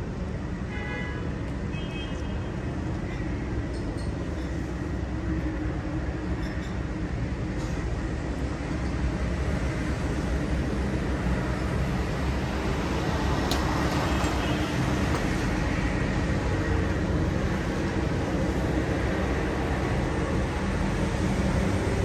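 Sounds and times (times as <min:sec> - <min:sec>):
city street noise: 0:00.0 - 0:22.0.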